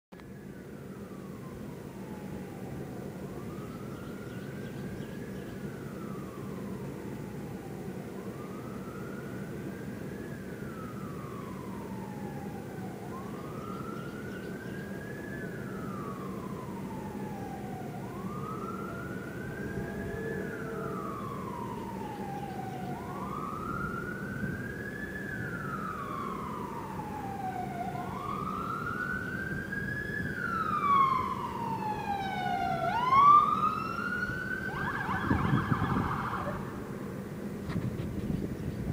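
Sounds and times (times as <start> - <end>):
ambulance siren wailing: 0.2 - 37.6.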